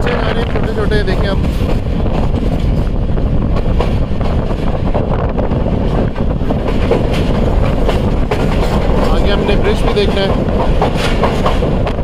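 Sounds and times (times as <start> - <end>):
train wheels on rails: 0.0 - 12.0
wind buffeting microphone: 0.0 - 12.0.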